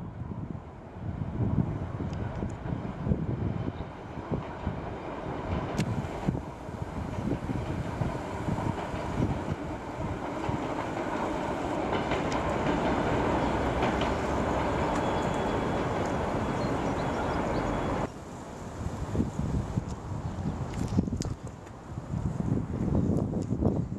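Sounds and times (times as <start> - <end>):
train wheels rumbling on rails: 0.2 - 21.8.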